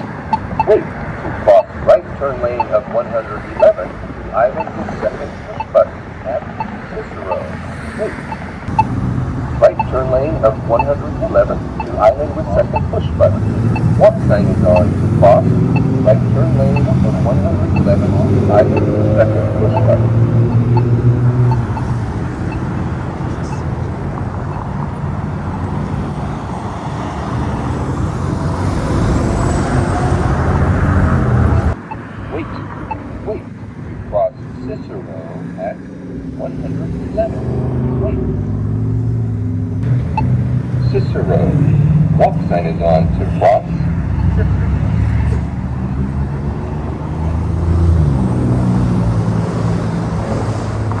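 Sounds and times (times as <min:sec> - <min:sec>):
road traffic passing: 0:00.0 - 0:51.0
vehicle rumble: 0:00.0 - 0:51.0.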